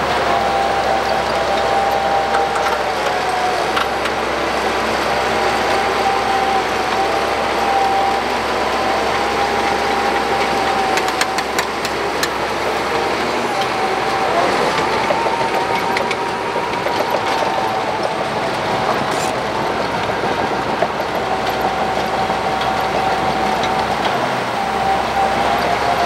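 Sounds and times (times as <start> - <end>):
bulldozer diesel engine: 0.0 - 26.0
steady high whine: 0.0 - 26.0
steel tracks clattering: 0.0 - 26.0.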